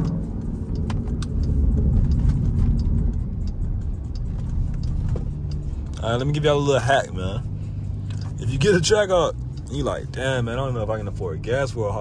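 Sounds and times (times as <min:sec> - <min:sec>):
car engine drone from inside cabin: 0:00.0 - 0:12.0.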